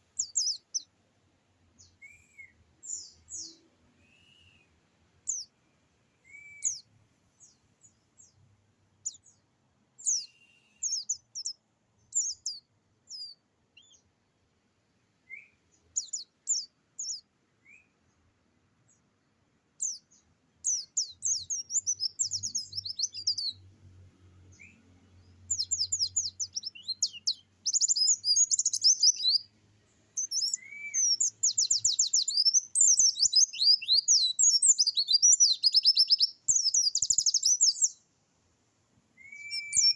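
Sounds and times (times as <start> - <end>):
songbird singing: 0.0 - 1.0, 1.6 - 5.6, 6.2 - 14.1, 15.2 - 38.1, 39.1 - 39.9.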